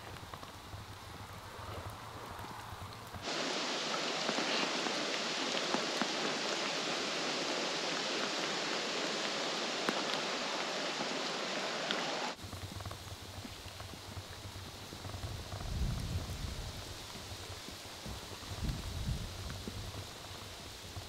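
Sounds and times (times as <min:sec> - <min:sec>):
rain hissing: 0:00.0 - 0:21.0
raindrop ticks: 0:00.0 - 0:21.0.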